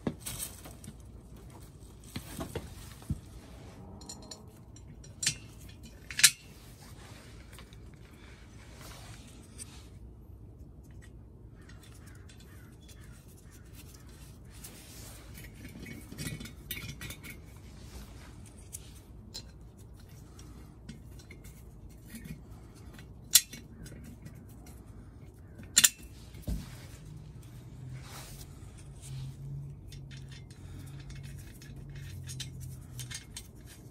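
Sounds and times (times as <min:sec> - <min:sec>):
metal clinks and scrapes: 0:00.0 - 0:33.9.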